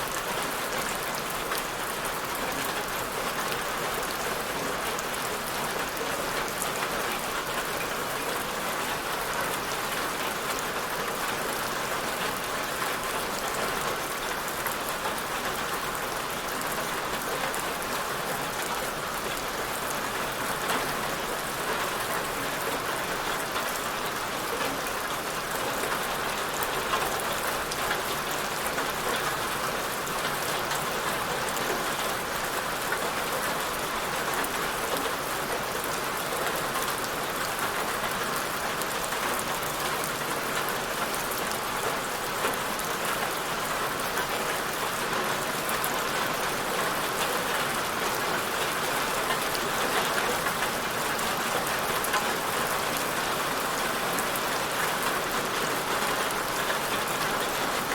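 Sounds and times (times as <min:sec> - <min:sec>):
steady rainfall: 0:00.0 - 0:57.9.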